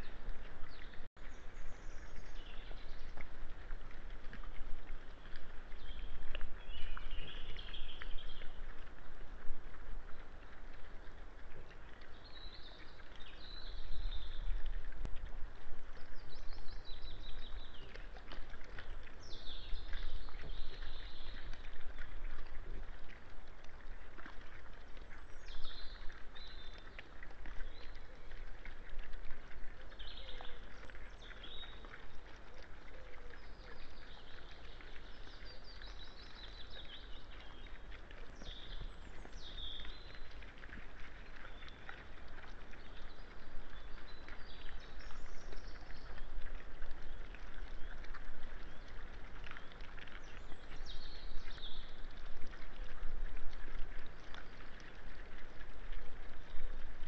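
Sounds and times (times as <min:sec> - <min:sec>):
songbirds singing: 0:00.0 - 0:03.3, 0:04.9 - 0:08.7, 0:12.0 - 0:15.0, 0:15.8 - 0:22.9, 0:24.2 - 0:52.9.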